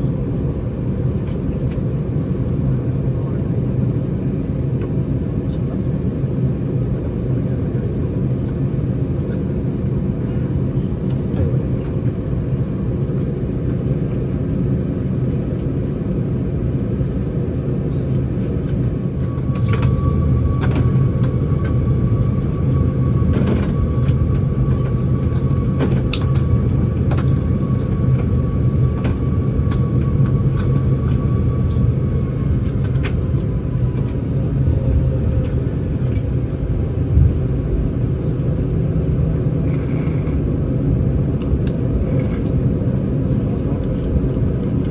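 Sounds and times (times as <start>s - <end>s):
airplane cabin rumble: 0.0s - 44.9s
steady high whine: 0.0s - 44.9s.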